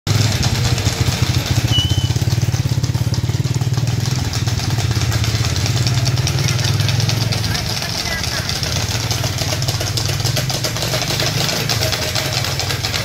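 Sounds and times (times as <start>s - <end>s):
motorcycle engine idling: 0.1s - 13.0s.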